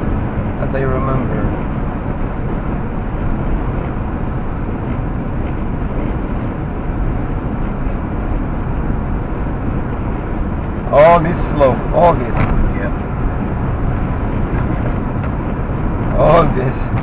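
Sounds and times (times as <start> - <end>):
car road noise from inside: 0.0 - 17.0.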